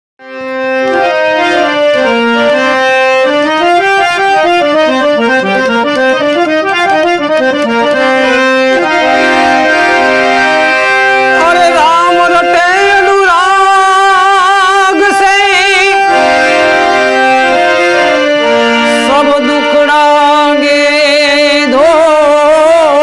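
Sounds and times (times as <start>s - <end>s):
harmonium melody: 0.2s - 23.0s.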